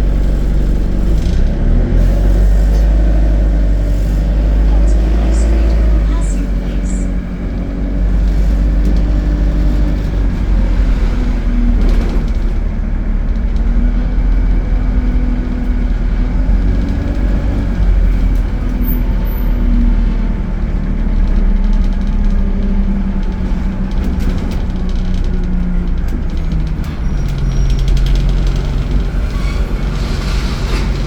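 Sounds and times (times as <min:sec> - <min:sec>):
bus engine rumbling: 0:00.0 - 0:31.0.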